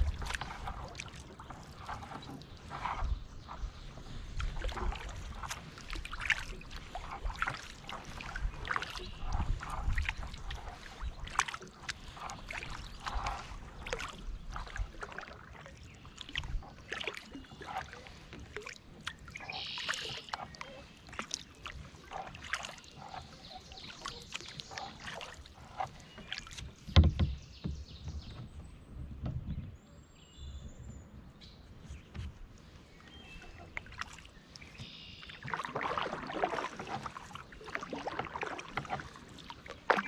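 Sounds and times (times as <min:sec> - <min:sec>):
water dripping off paddle: 0:00.0 - 0:28.5, 0:32.6 - 0:40.0
paddle splashing in water: 0:00.0 - 0:40.0.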